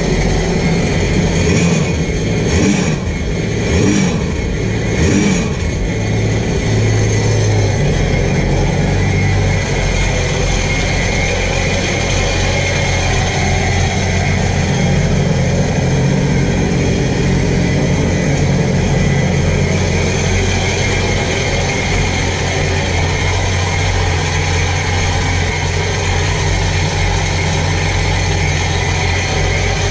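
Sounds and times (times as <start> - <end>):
personal watercraft engine idling: 0.0 - 29.9.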